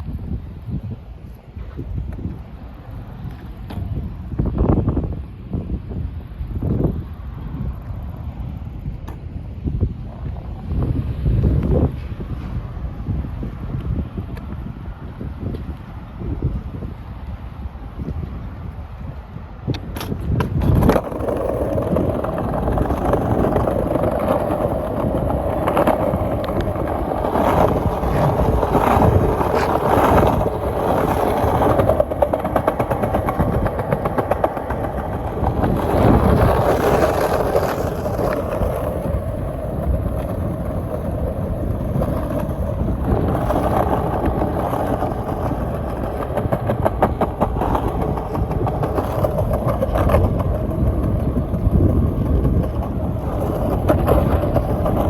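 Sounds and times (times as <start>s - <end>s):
skateboard wheels rolling on pavement: 0.0s - 55.0s.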